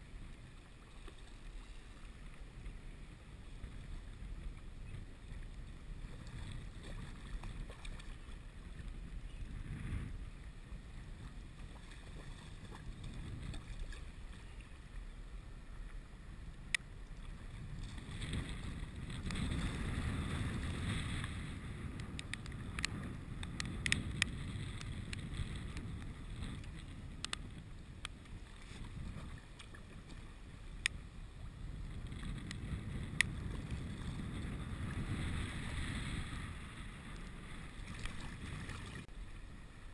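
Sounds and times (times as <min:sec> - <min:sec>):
wind buffeting microphone: 0:02.4 - 0:15.0, 0:15.6 - 0:39.1.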